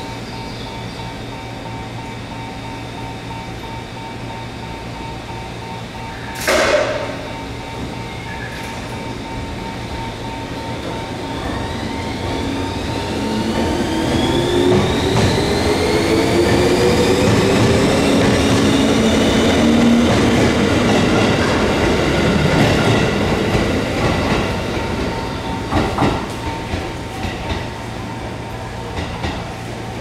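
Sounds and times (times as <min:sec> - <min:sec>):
electric train humming: 0:00.0 - 0:30.0.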